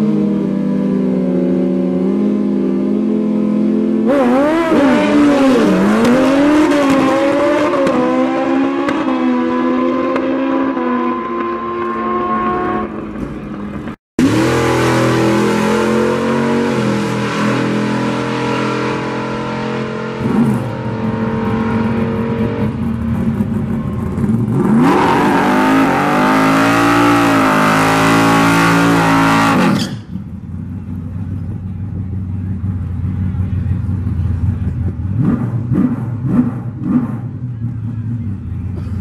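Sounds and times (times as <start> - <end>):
race car engines revving: 0.0 - 39.0.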